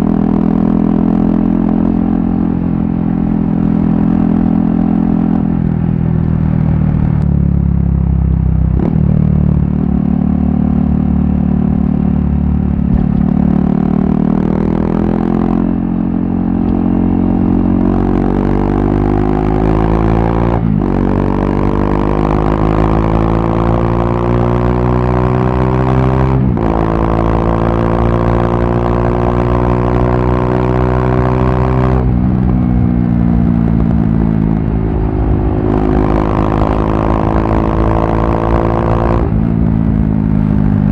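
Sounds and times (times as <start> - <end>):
motorcycle engine accelerating through gears: 0.0 - 40.9.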